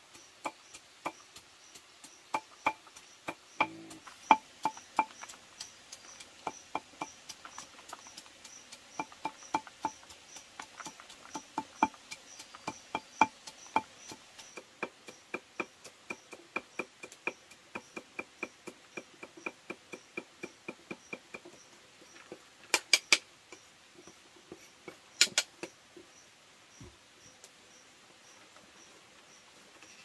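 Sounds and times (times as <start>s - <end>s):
rapid even tapping: 0.0s - 25.8s
insect chirping: 0.0s - 30.0s.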